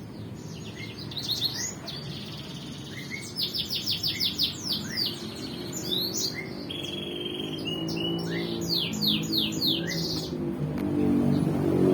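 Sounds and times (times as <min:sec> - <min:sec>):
songbirds chirping and whistling: 0:00.0 - 0:11.9.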